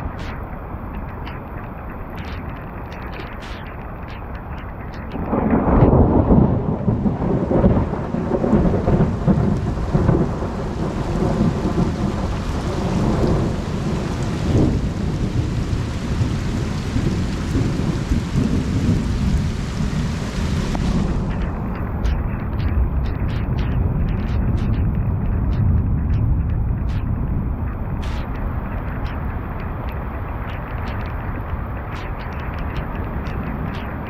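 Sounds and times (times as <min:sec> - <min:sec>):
steady rain falling: 0:00.0 - 0:34.0
thunder rumbling: 0:00.0 - 0:34.0.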